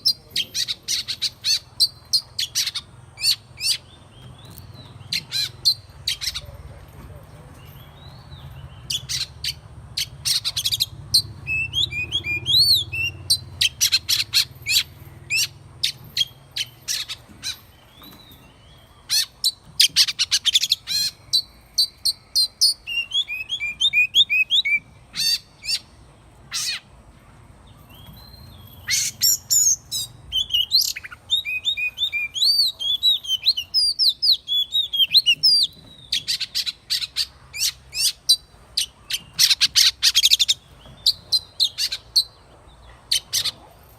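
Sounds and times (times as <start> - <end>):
magpie-robin singing: 0.0 - 6.8, 7.6 - 26.9, 27.6 - 43.7.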